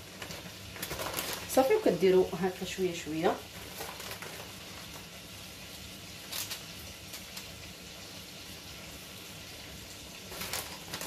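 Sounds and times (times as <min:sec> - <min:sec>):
soft rustle of sprinkled cheese: 0:00.0 - 0:11.0.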